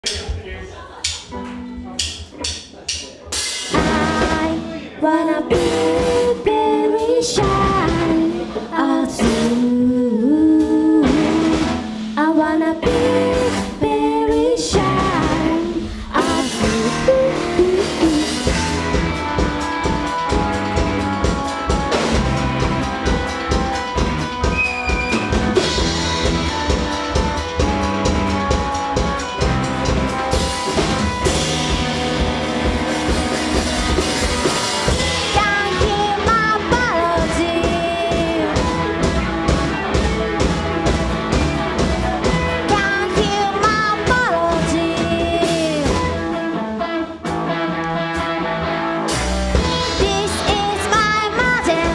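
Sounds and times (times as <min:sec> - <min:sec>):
bass: 0:00.0 - 0:51.9
drum kit: 0:00.0 - 0:51.9
electric guitar: 0:03.6 - 0:51.9.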